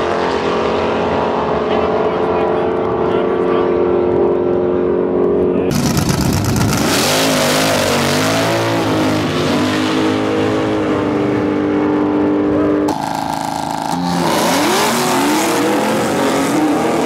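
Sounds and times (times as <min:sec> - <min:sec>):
drag car engines accelerating: 0:00.0 - 0:17.0.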